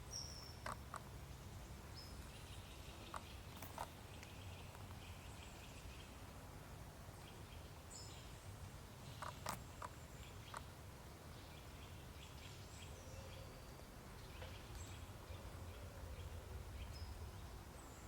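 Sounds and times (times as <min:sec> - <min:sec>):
small birds chirping: 0:00.0 - 0:06.4, 0:07.1 - 0:18.0.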